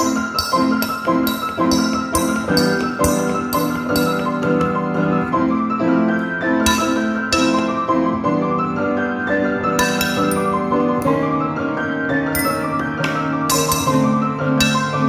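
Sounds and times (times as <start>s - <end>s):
instrumental keyboard music: 0.0s - 15.0s.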